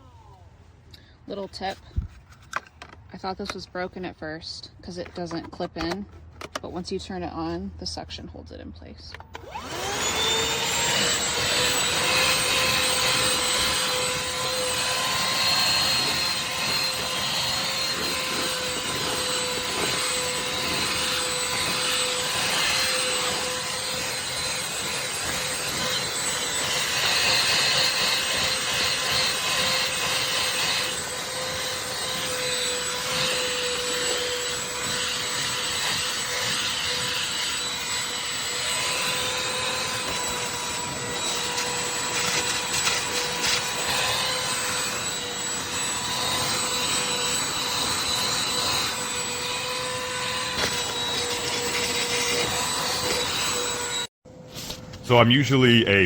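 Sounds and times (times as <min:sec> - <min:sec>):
handheld vacuum motor whine: 0:01.5 - 0:04.0, 0:09.1 - 0:55.0.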